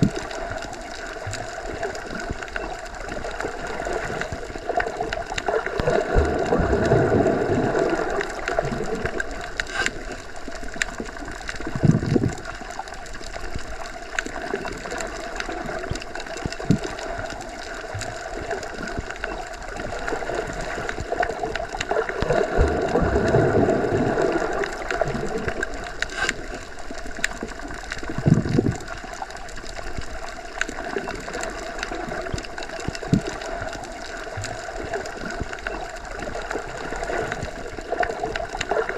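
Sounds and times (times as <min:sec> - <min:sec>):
muffled underwater rushing: 0:00.0 - 0:38.9.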